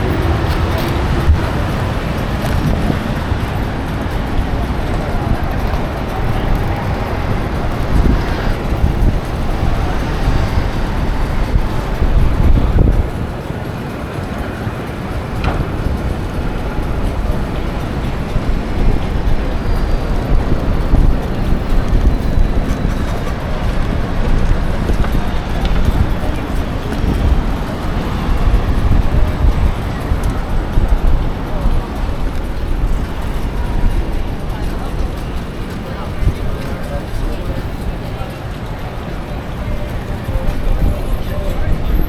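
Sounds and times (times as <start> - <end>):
heavy low rumble: 0.0 - 38.2
city street traffic: 0.0 - 42.0.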